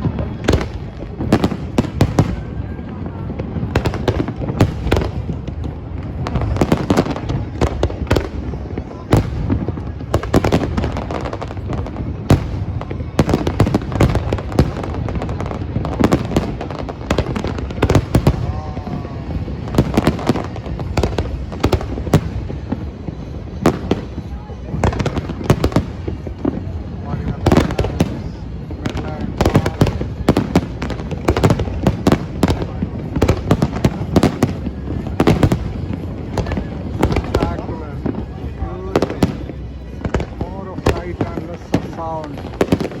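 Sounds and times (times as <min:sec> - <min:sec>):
fireworks bursts and bangs: 0:00.0 - 0:43.0.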